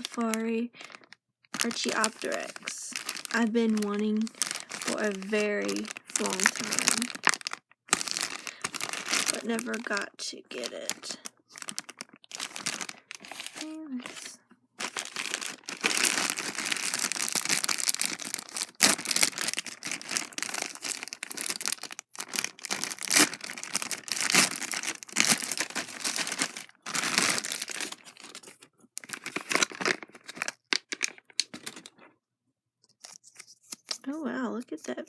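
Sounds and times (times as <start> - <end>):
packaging crinkling and tearing: 0.0 - 32.1, 32.9 - 34.2.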